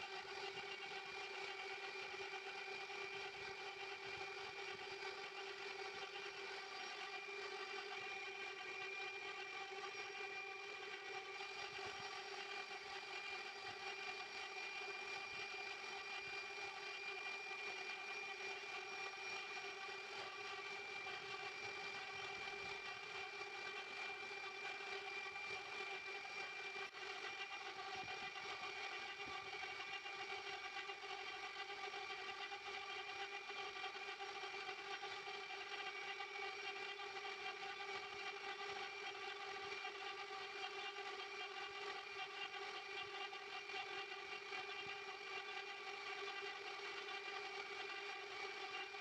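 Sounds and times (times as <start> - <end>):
motor whining steadily: 0.0 - 49.0.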